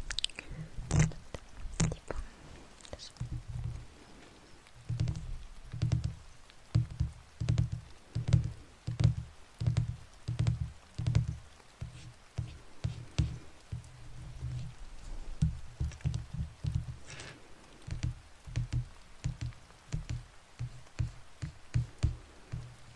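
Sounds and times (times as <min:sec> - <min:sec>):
tapping on microphone: 0:00.0 - 0:22.9.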